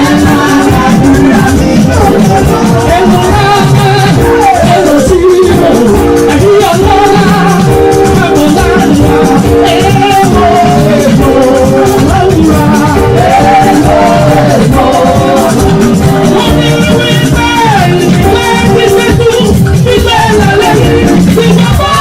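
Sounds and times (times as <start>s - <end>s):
church praise music: 0.0s - 22.0s.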